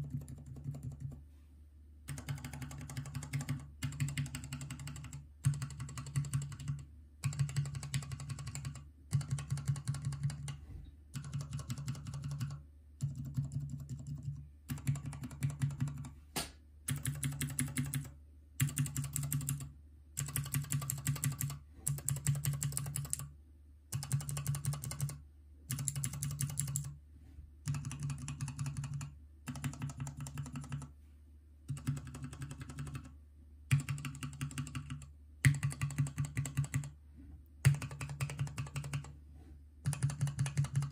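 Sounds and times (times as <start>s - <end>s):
faint low hum: 0.0s - 40.9s.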